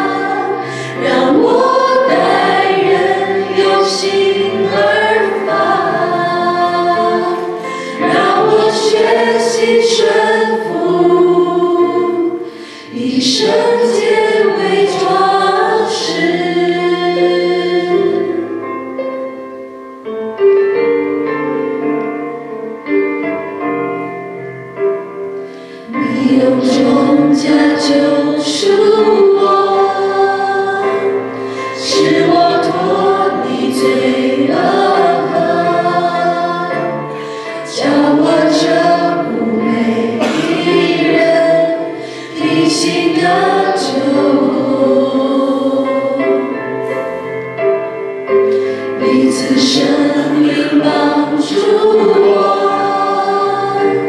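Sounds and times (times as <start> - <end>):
group singing a hymn: 0.0 - 18.6, 25.6 - 54.0.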